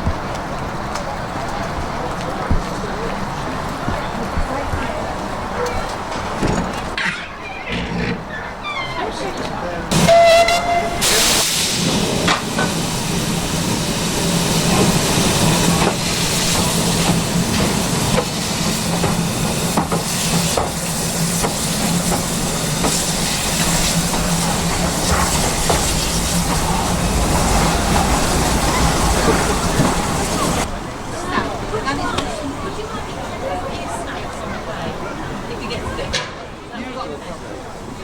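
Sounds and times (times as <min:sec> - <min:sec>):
steam locomotive hissing: 0:05.4 - 0:36.7.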